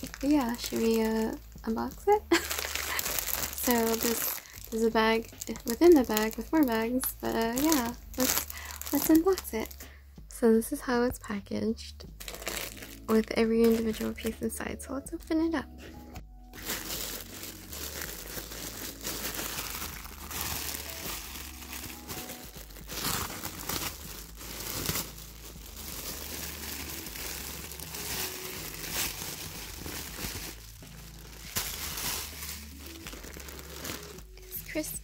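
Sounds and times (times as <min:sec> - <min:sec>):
plastic bags crinkling: 0:00.0 - 0:09.8, 0:12.2 - 0:14.6, 0:16.5 - 0:34.9.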